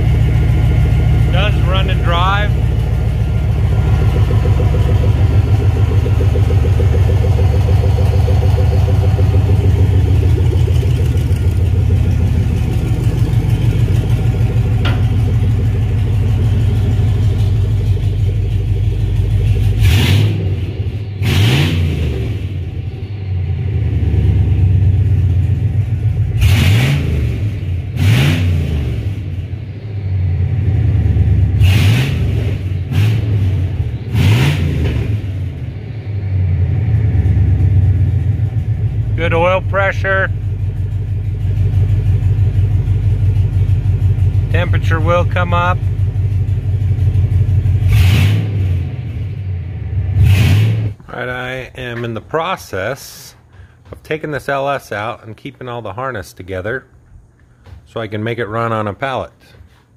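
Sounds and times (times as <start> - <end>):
loud vee eight engine idling and revving: 0.0 - 51.6.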